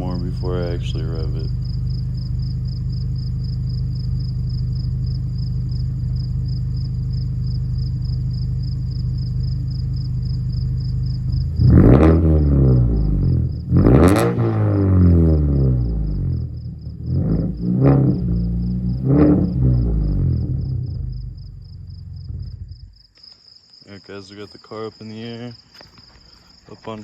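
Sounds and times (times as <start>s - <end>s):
car engine idling and revving: 0.0s - 23.0s
crickets chirping: 0.0s - 27.0s.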